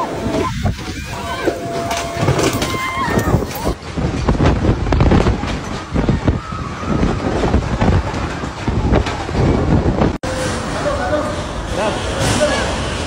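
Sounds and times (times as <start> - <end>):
wind gusts on microphone: 0.0 - 13.0.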